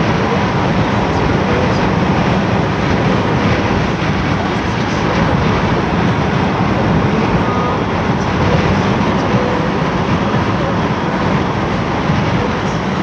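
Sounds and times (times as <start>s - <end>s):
car cabin road noise: 0.0s - 13.0s
electric train running: 0.0s - 13.0s.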